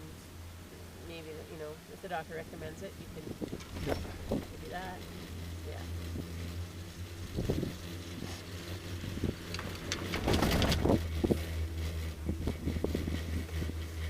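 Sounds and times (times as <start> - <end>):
chairlift humming: 0.0 - 14.0
rattling clatter: 2.1 - 14.0.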